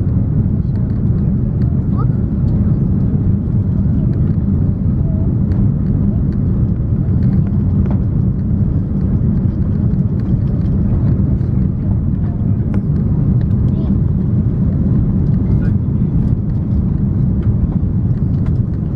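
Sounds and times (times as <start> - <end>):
airplane cabin rumble: 0.0 - 18.9.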